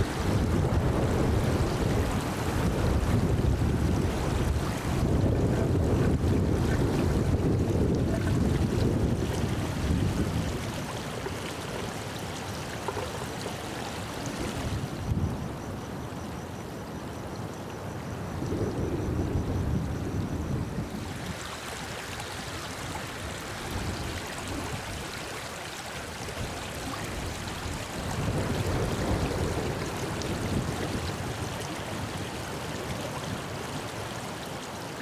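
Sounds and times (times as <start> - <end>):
wind on microphone: 0.0 - 16.2, 18.1 - 25.4, 26.1 - 34.2.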